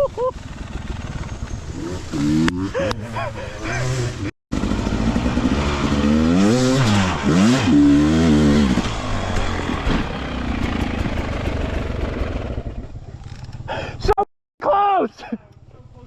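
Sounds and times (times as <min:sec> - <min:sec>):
motorbike engine revving: 0:00.3 - 0:13.6.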